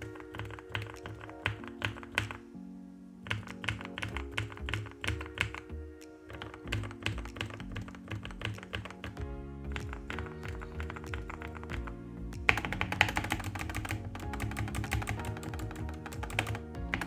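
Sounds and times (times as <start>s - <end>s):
mechanical keyboard typing: 0.0s - 2.4s, 3.2s - 17.0s
chill-out background music: 0.0s - 17.0s.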